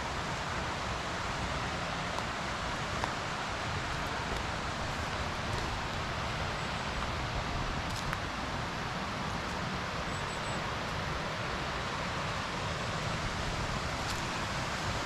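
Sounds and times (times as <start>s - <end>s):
creek rushing: 0.0s - 15.0s.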